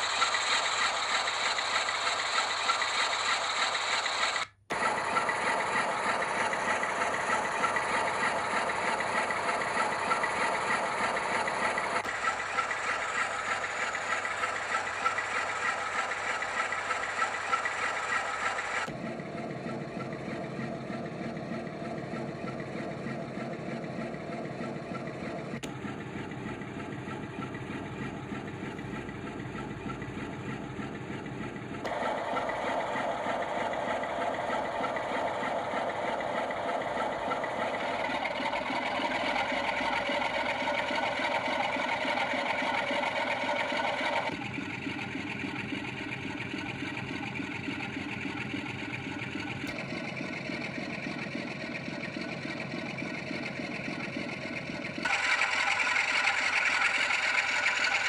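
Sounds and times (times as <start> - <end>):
diesel locomotive engine from small speaker: 0.0 - 58.0.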